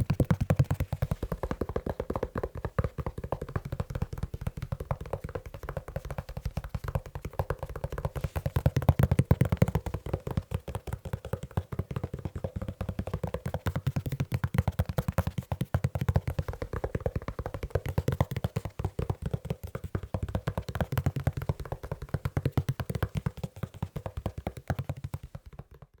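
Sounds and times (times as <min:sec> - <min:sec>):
fingertips tapping on leather shoe: 0:00.0 - 0:26.0.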